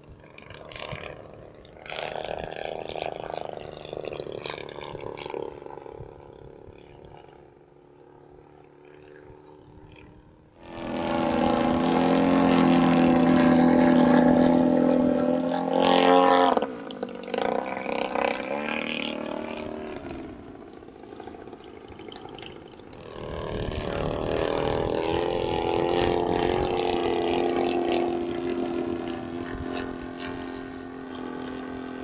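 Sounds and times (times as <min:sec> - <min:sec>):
model plane engine and propeller: 0:00.0 - 0:32.0.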